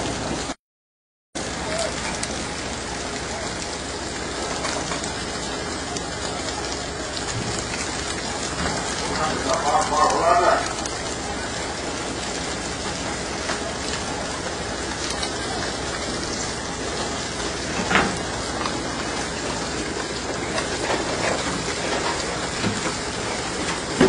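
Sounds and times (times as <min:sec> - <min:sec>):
boat engine rumble: 0:01.4 - 0:24.0
wake water rushing: 0:01.4 - 0:24.0.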